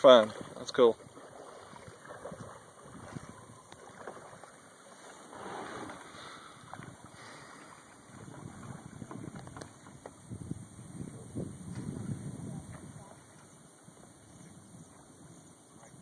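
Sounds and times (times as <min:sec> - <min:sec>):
paddle splashing water: 0:00.0 - 0:16.0.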